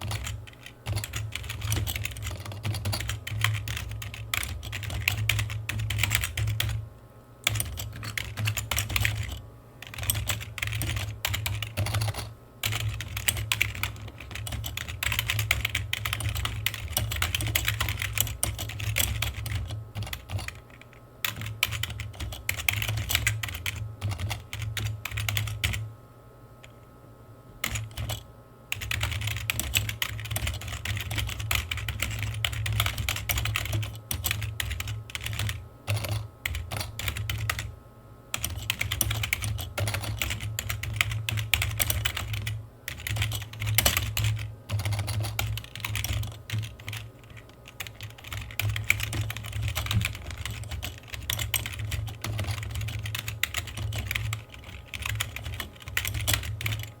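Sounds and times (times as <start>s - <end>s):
computer keyboard typing: 0.0s - 6.8s, 7.4s - 25.9s, 27.6s - 37.7s, 38.4s - 57.0s.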